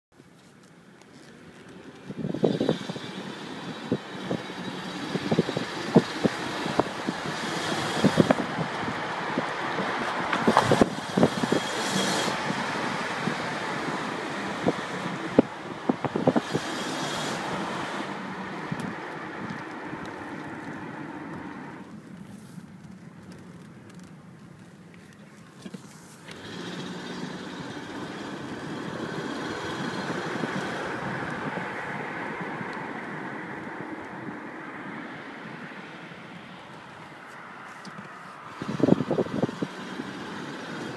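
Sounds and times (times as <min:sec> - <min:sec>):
car accelerating: 0:01.6 - 0:21.9, 0:26.2 - 0:36.0, 0:38.0 - 0:40.9.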